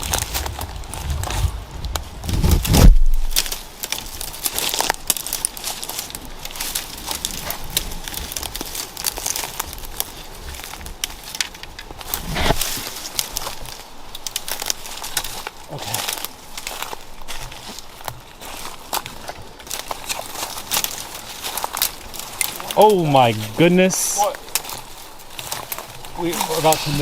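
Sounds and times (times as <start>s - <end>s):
footsteps crunching through leaves: 0.0s - 27.0s.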